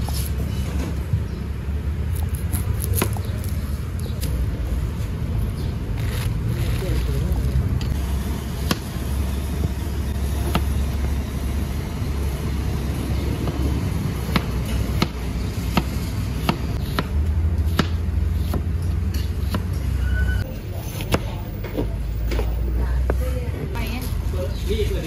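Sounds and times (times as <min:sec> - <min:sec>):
gas burner roaring: 0:00.0 - 0:20.3.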